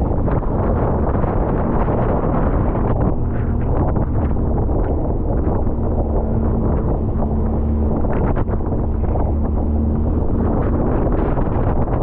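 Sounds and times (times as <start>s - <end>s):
watercraft engine drone: 0.0s - 12.0s
wind buffeting microphone: 0.0s - 12.0s.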